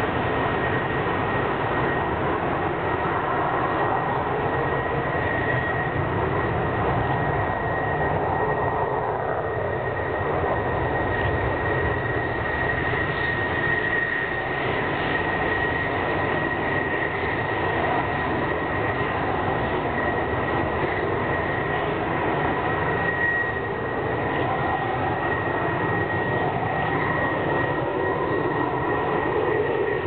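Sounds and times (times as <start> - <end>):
high whine: 0.0 - 30.0
jet engine roaring: 0.0 - 30.0.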